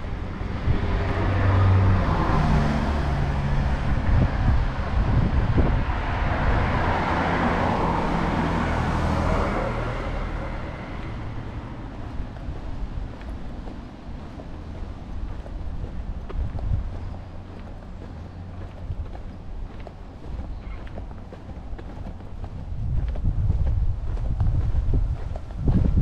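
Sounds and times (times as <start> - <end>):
car engine hum: 0.0 - 26.0.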